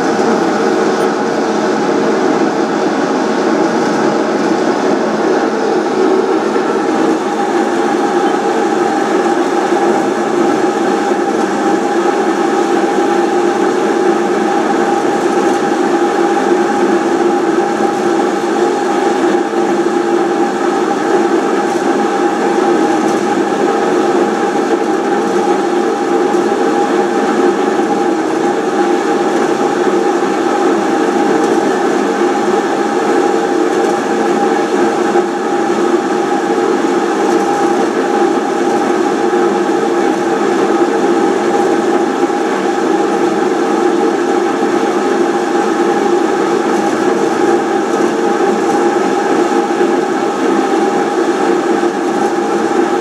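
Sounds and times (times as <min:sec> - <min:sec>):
lathe machine humming and whining: 0:00.0 - 0:53.0.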